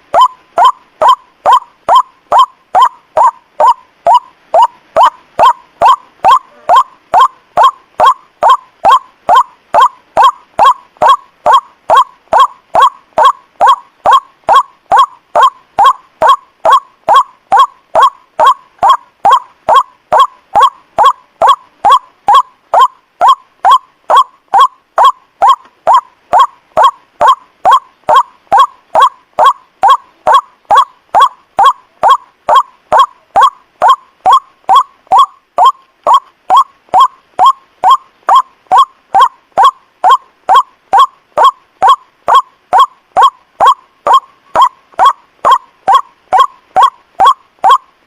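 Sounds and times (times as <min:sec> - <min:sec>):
waterhen honking call: 0:00.0 - 0:47.8.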